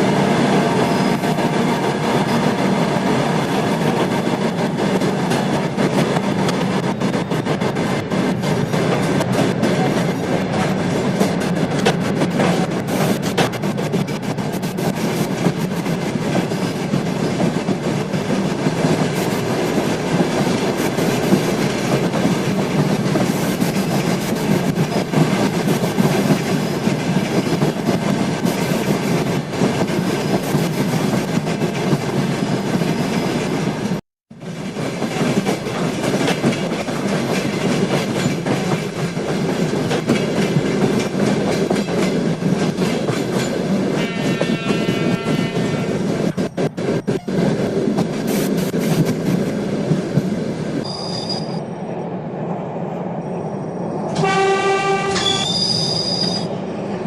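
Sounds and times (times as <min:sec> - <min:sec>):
train wheels clacking over rails: 0:00.0 - 0:50.9
train rumble: 0:00.0 - 0:57.0.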